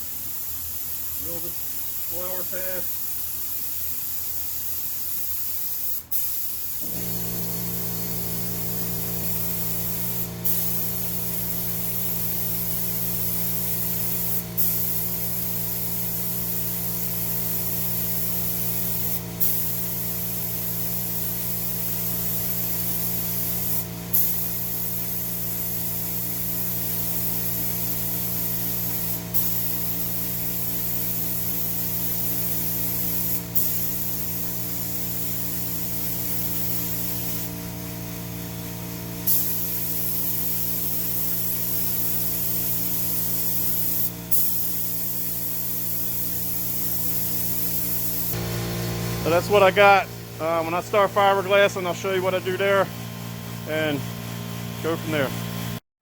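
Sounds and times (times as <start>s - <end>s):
spray gun hissing: 0.2s - 52.8s.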